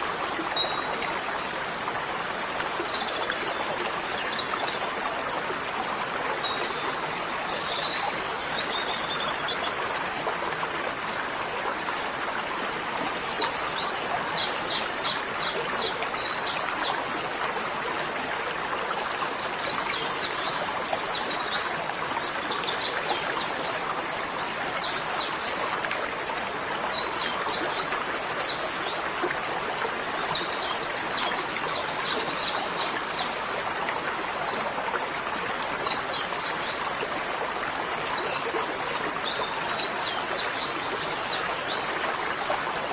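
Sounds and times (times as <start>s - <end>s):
stream running water: 0.0s - 42.9s.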